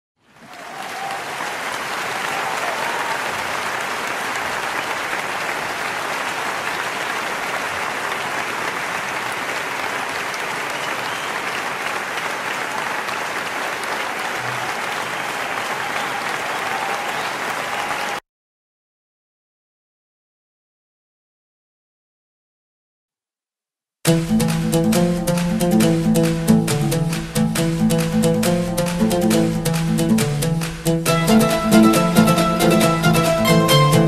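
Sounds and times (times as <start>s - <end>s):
audience applauding: 0.2s - 18.2s, 24.5s - 34.0s.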